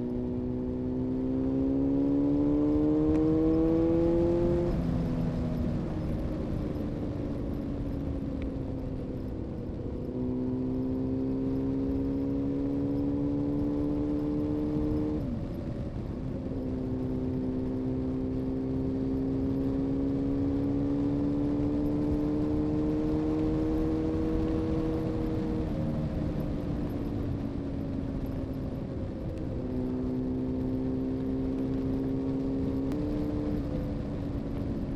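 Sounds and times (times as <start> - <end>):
motorcycle engine accelerating: 0.0 - 7.6, 8.6 - 34.9
wind and road noise: 0.0 - 34.9.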